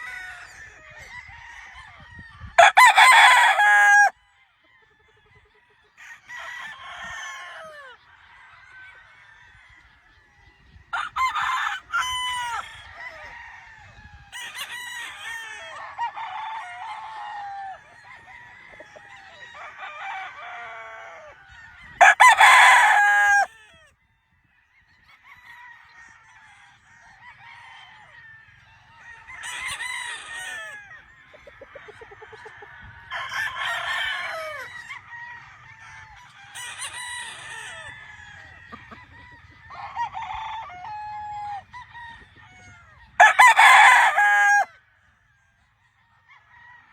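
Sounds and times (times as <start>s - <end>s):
roosters crowing: 0.0s - 4.2s, 5.1s - 10.2s, 10.9s - 24.0s, 25.1s - 46.9s.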